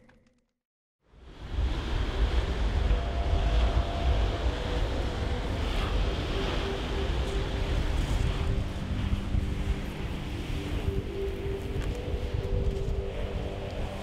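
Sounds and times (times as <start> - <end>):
wind rumbling on microphone: 1.0 - 14.0.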